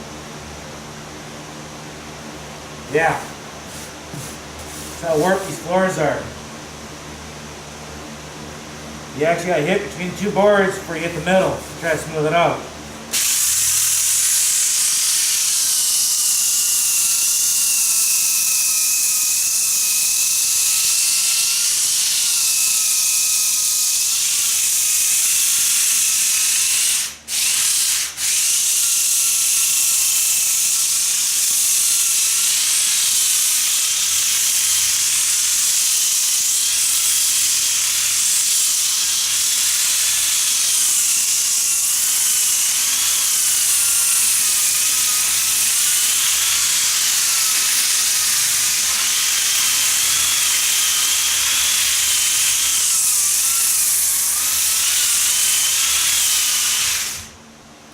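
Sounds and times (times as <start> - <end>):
floor sander on wood: 2.9 - 6.4, 9.2 - 57.4.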